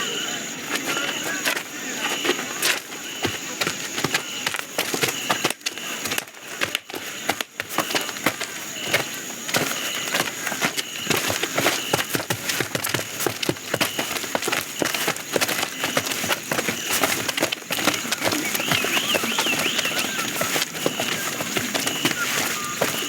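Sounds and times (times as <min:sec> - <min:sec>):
small clicks taps and rustles: 0:00.7 - 0:23.0.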